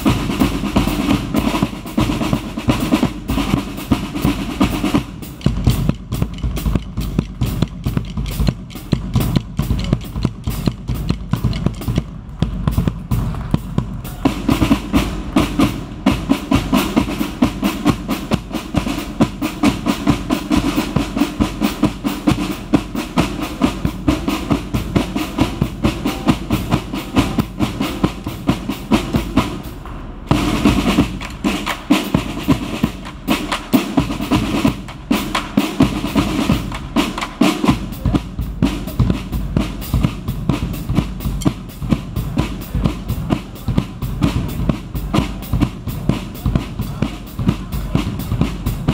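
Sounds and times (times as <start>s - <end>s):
snare drums playing cadence: 0.0s - 48.9s.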